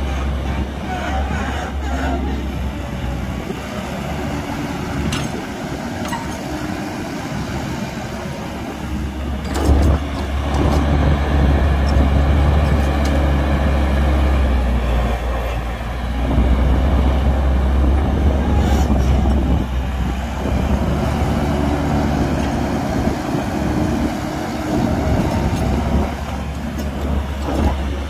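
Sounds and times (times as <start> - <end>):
heavy diesel engines running: 0.0 - 28.0.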